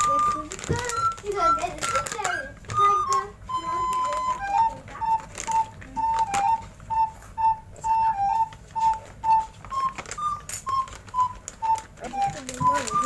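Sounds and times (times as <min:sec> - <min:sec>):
whistle-like melody: 0:00.0 - 0:13.0.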